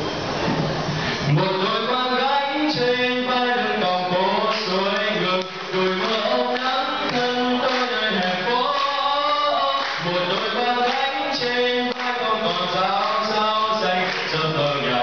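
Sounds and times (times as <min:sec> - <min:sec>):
man singing into a microphone: 0:01.2 - 0:15.0.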